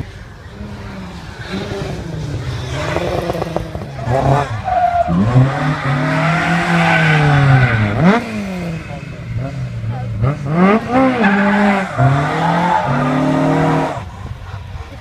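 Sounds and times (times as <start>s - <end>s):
tyres spinning and squealing: 0.0s - 15.0s
car engine revving hard: 1.4s - 14.1s.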